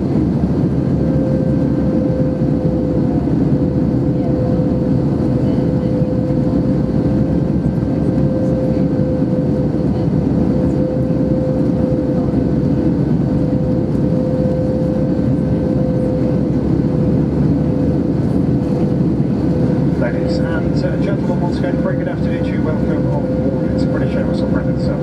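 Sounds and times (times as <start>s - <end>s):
airplane cabin engine roar: 0.0s - 25.0s.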